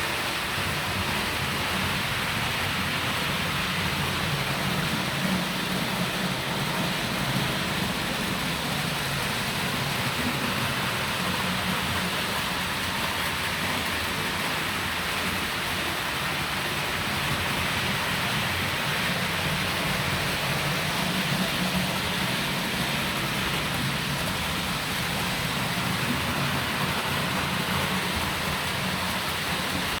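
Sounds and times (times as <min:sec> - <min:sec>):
model train rolling on track: 0:00.0 - 0:30.0.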